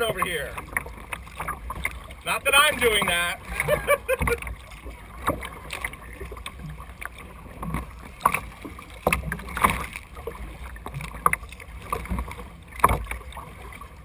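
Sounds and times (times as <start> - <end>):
water splashing around kayak: 0.0 - 14.0.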